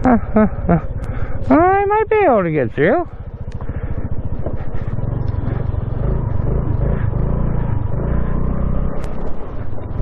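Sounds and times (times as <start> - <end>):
motorbike engine running: 0.0 - 10.0
road rumble: 0.0 - 10.0.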